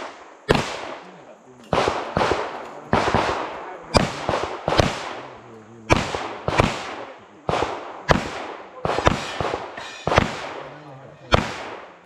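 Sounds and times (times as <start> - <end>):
pistol shots with echo: 0.0 - 12.0.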